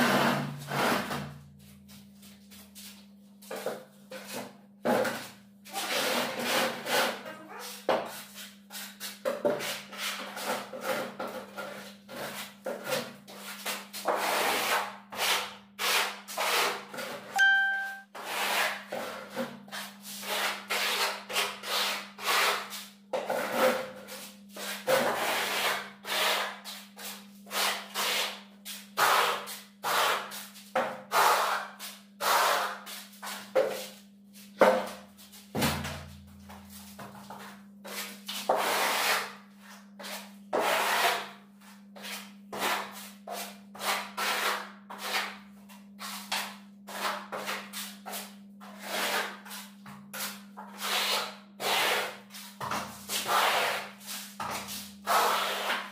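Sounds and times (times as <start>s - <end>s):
trowel scraping plaster: 0.0s - 1.4s, 3.5s - 17.3s, 18.2s - 35.0s, 37.0s - 55.9s.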